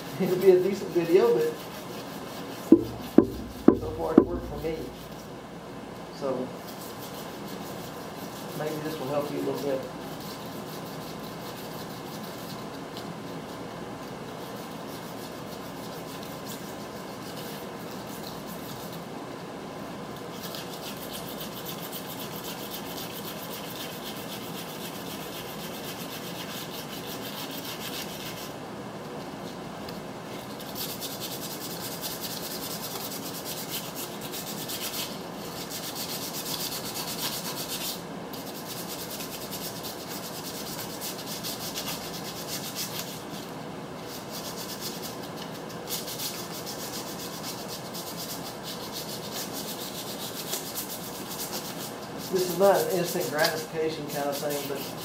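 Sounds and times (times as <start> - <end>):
sandpaper scratching on metal: 0.0 - 5.3, 6.6 - 12.8, 14.3 - 19.1, 20.3 - 28.5, 30.5 - 55.0.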